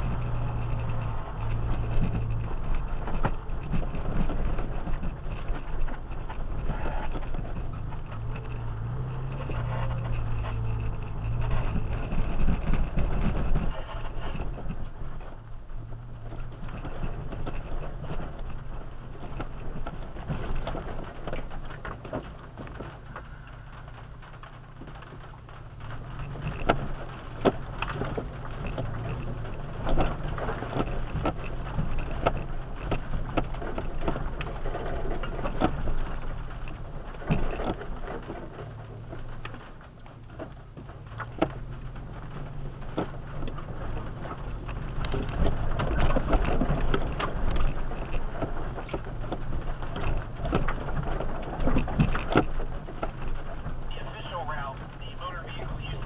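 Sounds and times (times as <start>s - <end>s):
gravel knocking under tyres: 0.0s - 56.0s
low engine hum: 0.0s - 56.0s.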